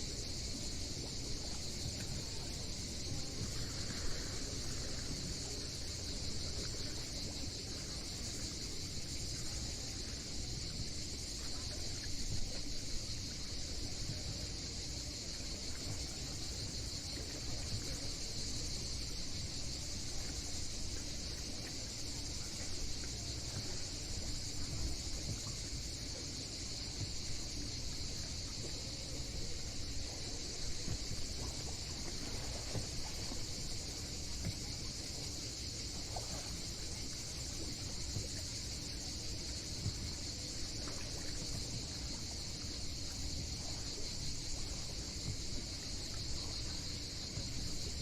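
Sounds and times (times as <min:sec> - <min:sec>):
high-pitched insect chorus: 0:00.0 - 0:48.0
wind: 0:00.0 - 0:48.0.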